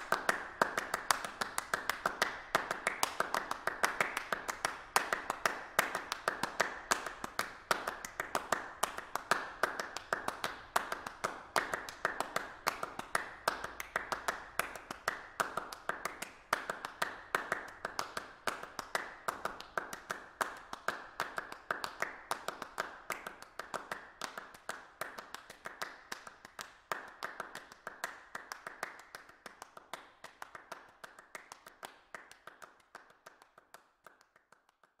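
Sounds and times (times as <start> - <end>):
rapid clap-like strikes: 0.0 - 35.0.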